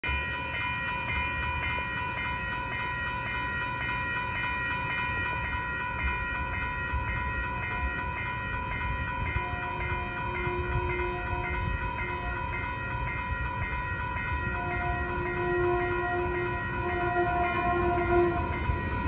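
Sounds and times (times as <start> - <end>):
crossing warning bell ringing: 0.0 - 19.0.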